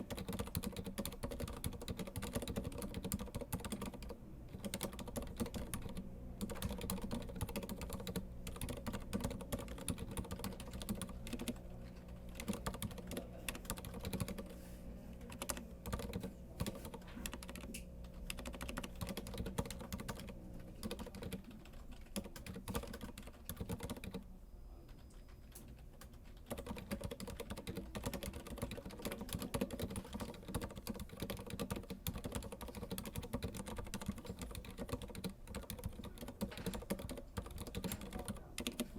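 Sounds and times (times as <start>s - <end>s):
mechanical keyboard typing: 0.0s - 14.5s, 15.2s - 24.2s, 24.9s - 38.9s.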